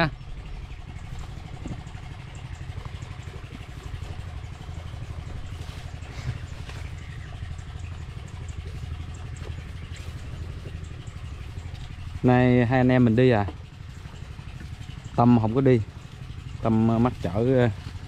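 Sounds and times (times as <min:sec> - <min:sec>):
motorbike engine running: 0:00.0 - 0:18.0.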